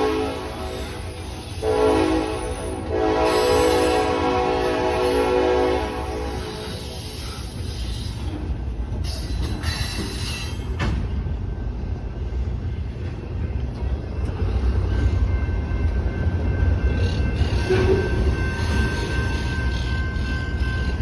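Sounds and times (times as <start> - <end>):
freight train rumble: 0.0 - 21.0
train wheel squeal: 0.0 - 21.0.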